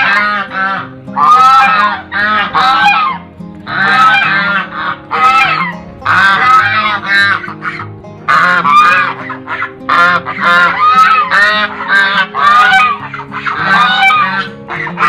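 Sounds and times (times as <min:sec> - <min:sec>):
background music with low notes: 0:00.0 - 0:15.0
bird calling rapidly: 0:00.0 - 0:15.0.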